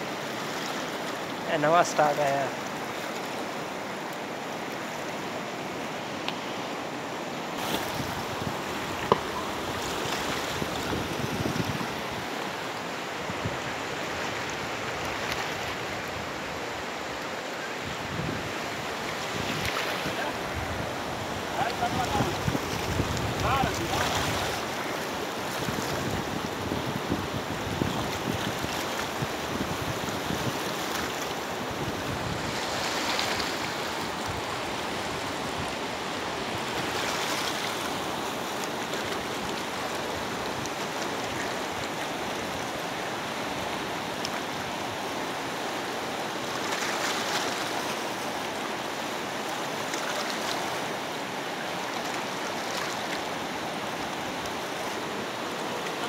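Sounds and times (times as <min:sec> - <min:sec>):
turbulent river rushing: 0:00.0 - 0:56.0.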